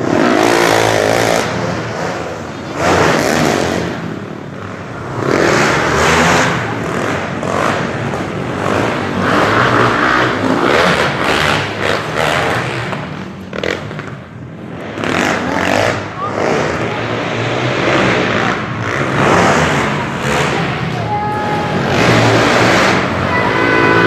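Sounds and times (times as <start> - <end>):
motocross bikes revving past: 0.0 - 24.0.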